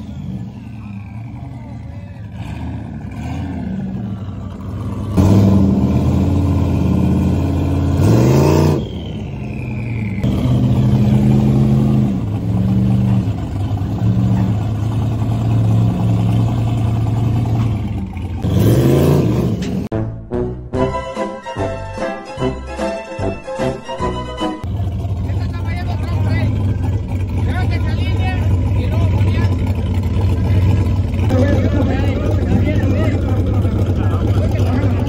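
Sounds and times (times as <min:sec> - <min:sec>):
pickup engines revving hard: 0:02.2 - 0:19.9, 0:24.7 - 0:35.0.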